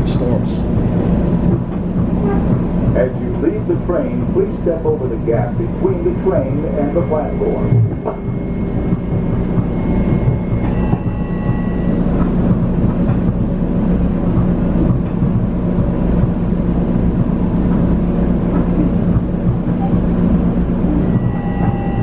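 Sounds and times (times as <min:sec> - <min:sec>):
faint motor whine: 0:00.0 - 0:22.0
train rumbling on tracks: 0:00.0 - 0:22.0.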